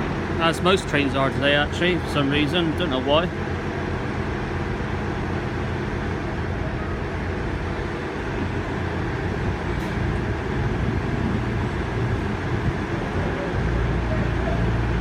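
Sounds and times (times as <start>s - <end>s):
diesel train engine humming: 0.0s - 15.0s.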